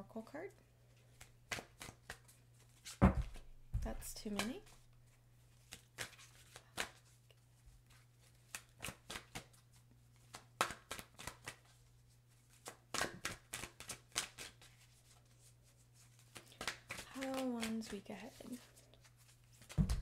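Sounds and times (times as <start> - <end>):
cards being shuffled: 1.0 - 3.5, 4.2 - 4.8, 5.5 - 7.2, 7.8 - 11.8, 12.4 - 20.0.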